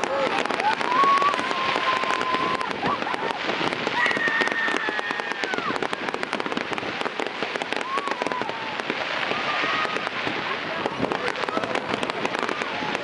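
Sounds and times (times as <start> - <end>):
fireworks crackling and popping: 0.0 - 13.0
fireworks whistling: 0.0 - 13.0.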